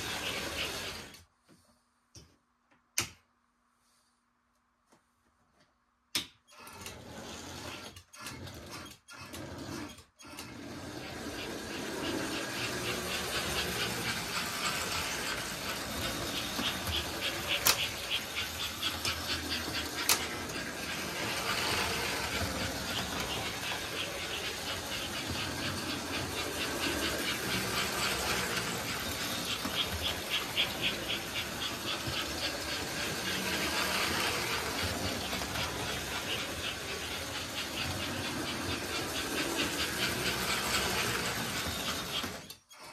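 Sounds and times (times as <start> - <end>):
toy train running on track: 0.0 - 1.3, 6.5 - 42.9.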